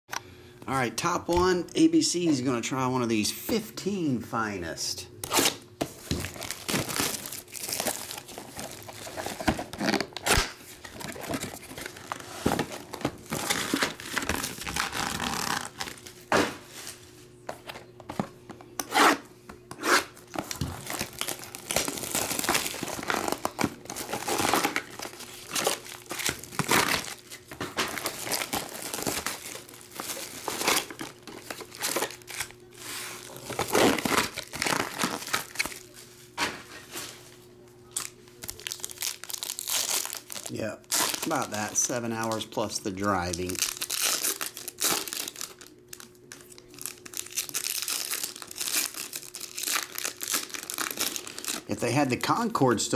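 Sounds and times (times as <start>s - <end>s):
plastic wrap crinkling and tearing: 5.2s - 17.0s, 20.2s - 36.0s, 37.8s - 52.7s.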